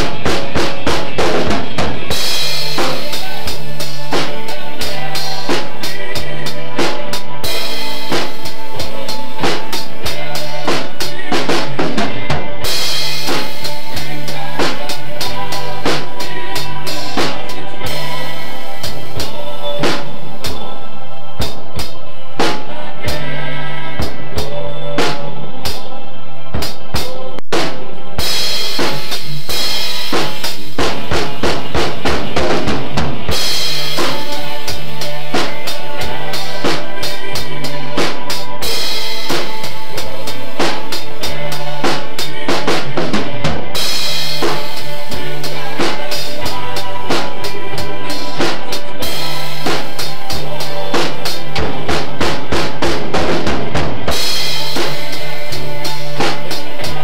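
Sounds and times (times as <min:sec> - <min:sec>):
drum kit rock beat: 0:00.0 - 0:57.0.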